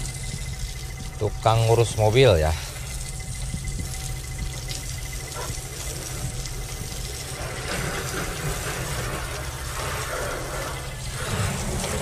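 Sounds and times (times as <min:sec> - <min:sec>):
hose water spraying on car: 0:00.0 - 0:12.0
steady low rumble: 0:00.0 - 0:12.0.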